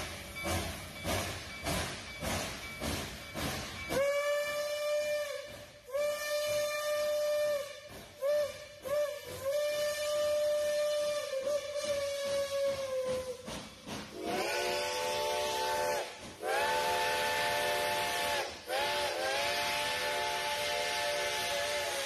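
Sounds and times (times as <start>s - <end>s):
chime steam whistle blasts: 0.0s - 22.0s
steam hiss: 0.0s - 22.0s.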